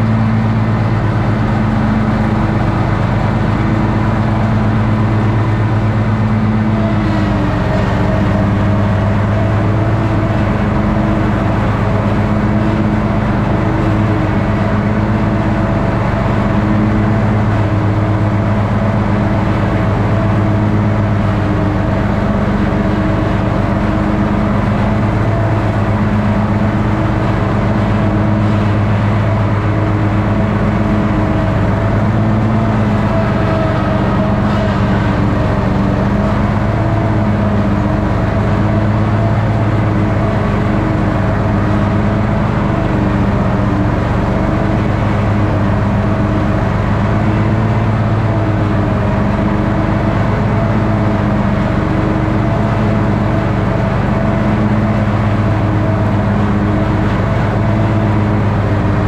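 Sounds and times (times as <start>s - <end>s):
ride-on lawn mower engine: 0.0s - 59.0s.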